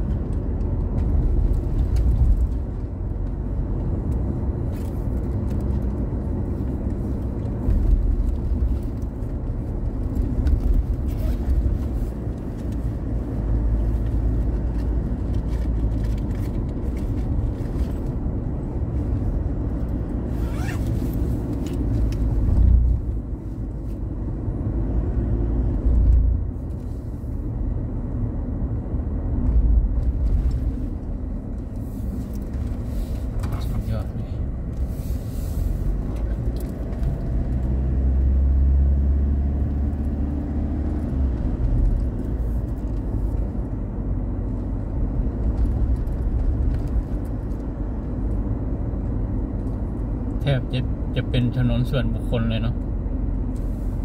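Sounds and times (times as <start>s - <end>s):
car engine rumble: 0.0s - 54.0s
tyres on paved road: 0.0s - 54.0s.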